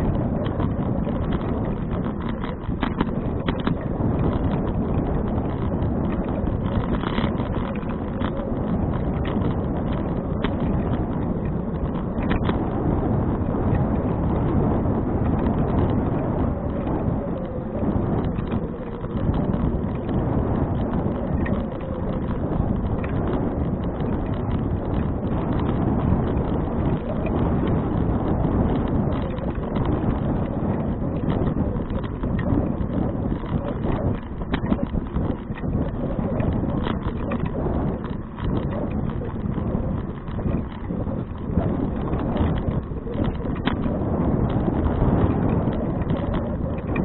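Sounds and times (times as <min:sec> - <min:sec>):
small clicks and rattles: 0:00.0 - 0:47.0
wind buffeting microphone: 0:00.0 - 0:47.0.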